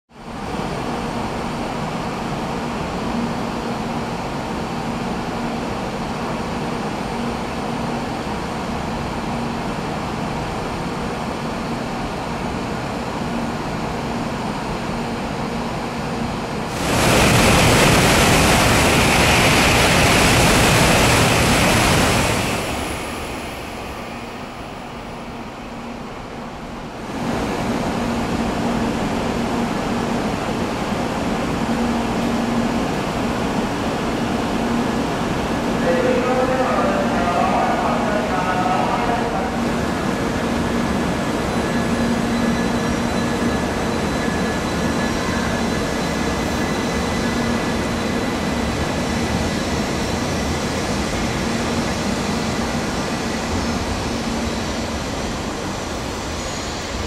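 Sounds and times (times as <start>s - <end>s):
station platform rumble and hum: 0.1s - 57.0s
train rushing roar: 0.3s - 57.0s.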